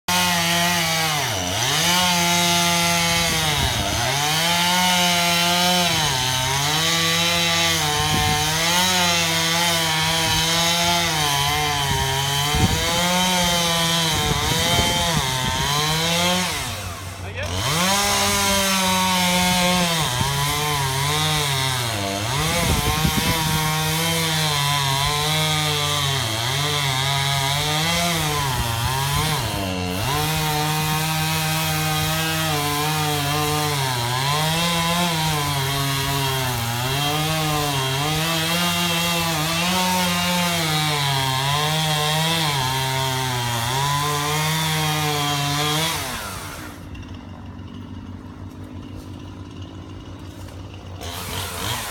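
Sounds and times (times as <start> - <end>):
chainsaw cutting tree trunk: 0.0 - 51.9.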